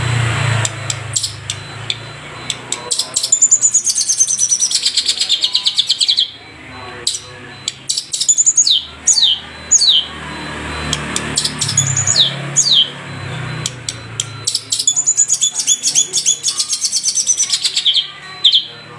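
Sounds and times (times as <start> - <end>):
bird trilling: 0.5 - 18.9.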